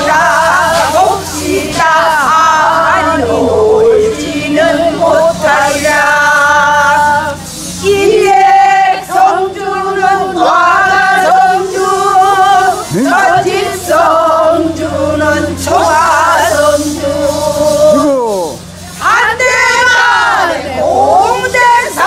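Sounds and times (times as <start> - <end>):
women singing folk song: 0.0 - 22.0.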